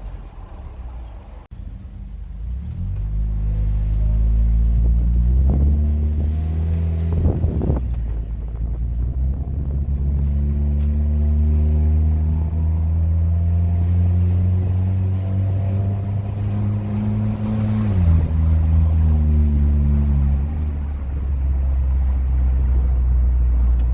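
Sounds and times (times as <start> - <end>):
car engine loud deep drone: 0.0 - 23.9.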